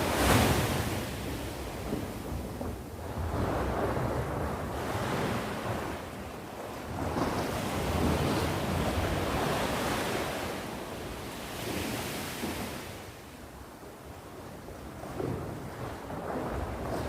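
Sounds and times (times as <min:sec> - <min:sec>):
sea waves breaking on shore: 0:00.0 - 0:17.0
wind noise on microphone: 0:00.0 - 0:17.0.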